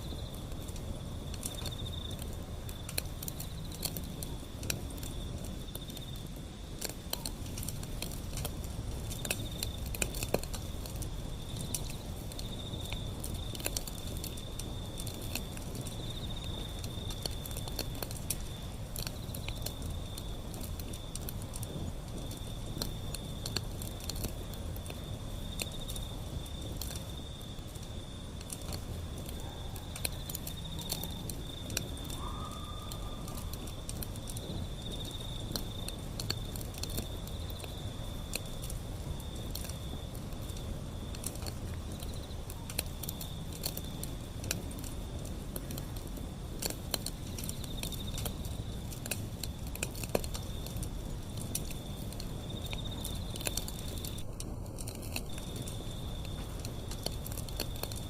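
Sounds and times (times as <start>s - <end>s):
insect trill: 0.0s - 58.0s
wood fire crackling: 0.0s - 58.0s.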